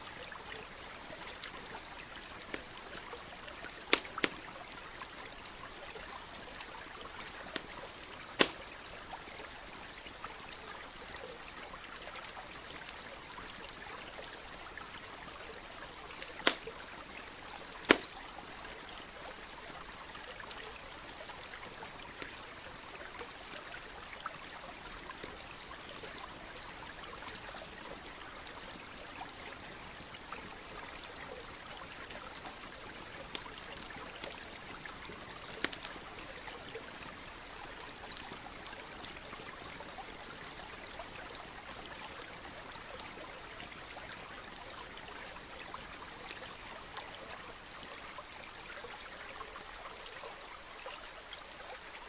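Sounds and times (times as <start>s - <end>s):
campfire crackling and popping: 0.0s - 51.7s
stream murmuring: 0.0s - 52.0s.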